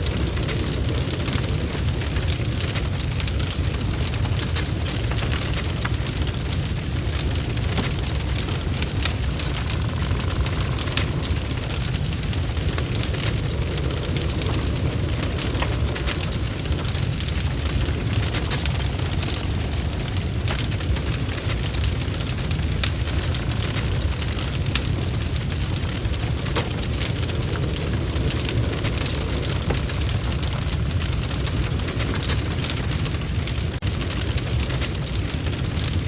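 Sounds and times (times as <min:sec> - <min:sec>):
bonfire crackling and popping: 0:00.0 - 0:36.0
low rumble of burning: 0:00.0 - 0:36.0.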